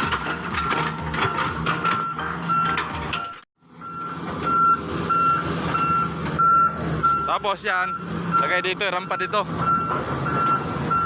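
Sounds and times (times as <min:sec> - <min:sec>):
reversing alarm beeping: 0:00.6 - 0:11.0.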